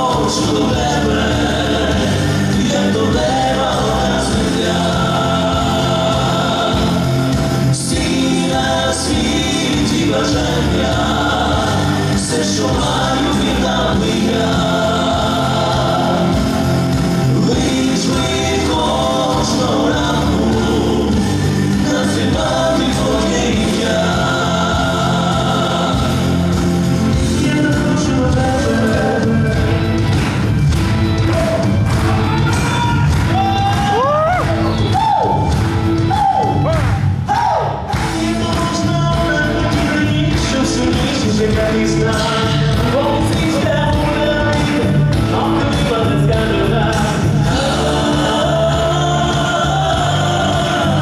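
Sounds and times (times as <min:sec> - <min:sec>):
male voices singing: 0:00.0 - 0:30.6, 0:31.2 - 0:51.0
musical accompaniment: 0:00.0 - 0:51.0.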